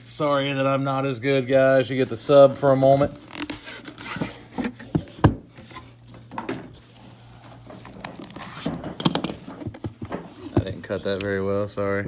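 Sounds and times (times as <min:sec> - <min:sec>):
cardboard and plastic rustling: 0:01.4 - 0:11.5.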